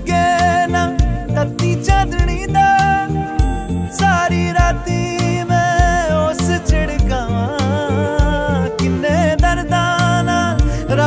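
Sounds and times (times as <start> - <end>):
love song with bass beat: 0.0 - 11.0.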